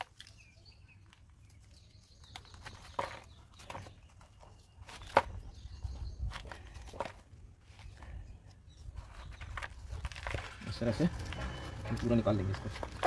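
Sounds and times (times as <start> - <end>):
roots and soil rustling and crackling: 0.0 - 13.0.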